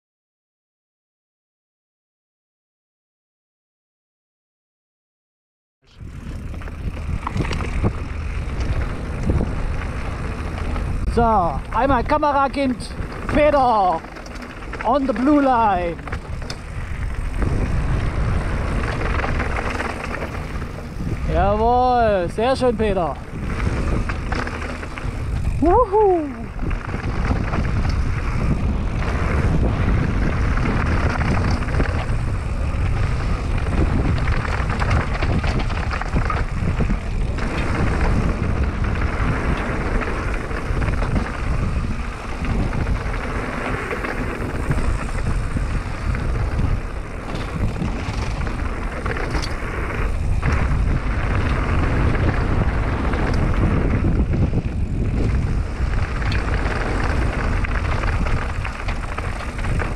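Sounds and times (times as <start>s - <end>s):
bike tyres rumbling over gravel: 5.9s - 59.9s
wind on microphone: 5.9s - 59.9s
bike clattering over bumps: 6.0s - 59.9s.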